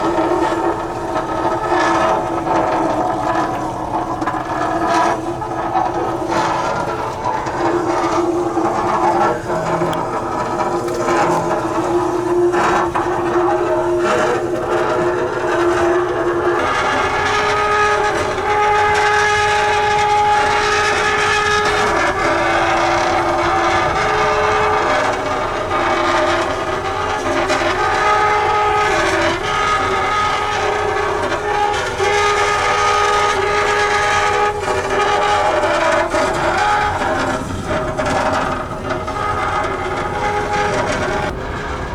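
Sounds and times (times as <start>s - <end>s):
rough scraping noise: 0.0s - 41.9s
ship hull screeching: 0.0s - 41.9s.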